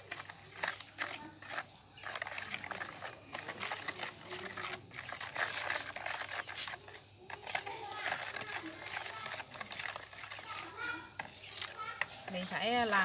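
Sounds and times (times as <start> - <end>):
food preparation rustling and clicks: 0.0 - 13.0
insects droning: 0.0 - 13.0.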